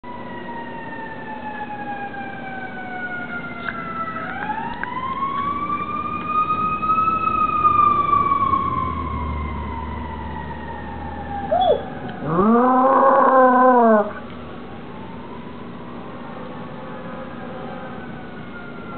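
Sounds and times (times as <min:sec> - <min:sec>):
siren wailing: 0:00.0 - 0:18.9.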